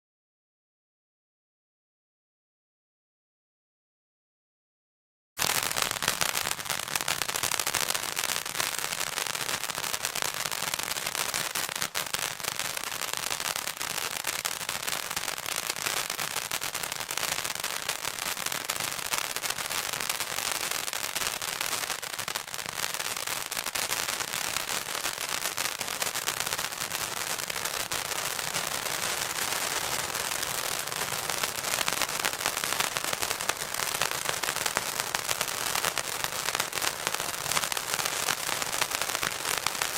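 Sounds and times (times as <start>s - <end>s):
firework spray hissing and crackling: 5.4s - 39.9s.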